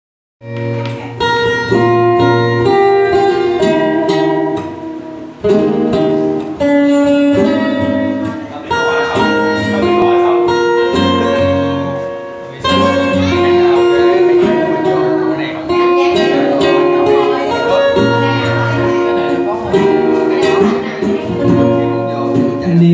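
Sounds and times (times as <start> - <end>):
acoustic guitars playing: 0.4 - 22.9.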